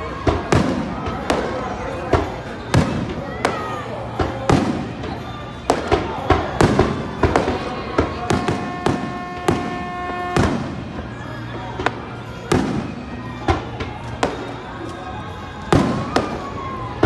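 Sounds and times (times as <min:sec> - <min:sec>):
fireworks bursting with bangs: 0:00.0 - 0:17.0
fireworks crackling: 0:00.0 - 0:17.0.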